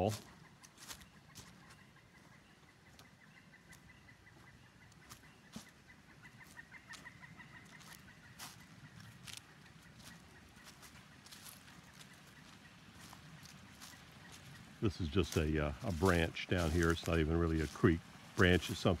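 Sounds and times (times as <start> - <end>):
faint footsteps: 0.0 - 19.0
repeated animal calls: 0.0 - 19.0.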